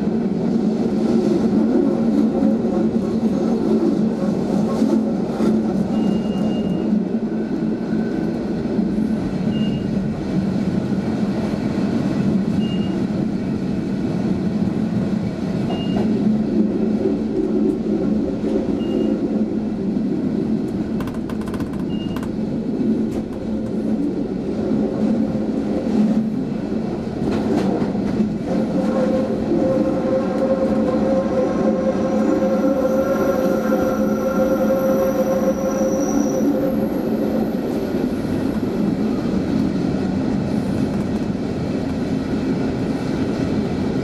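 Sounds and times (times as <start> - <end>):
train rolling rumble: 0.0 - 44.0.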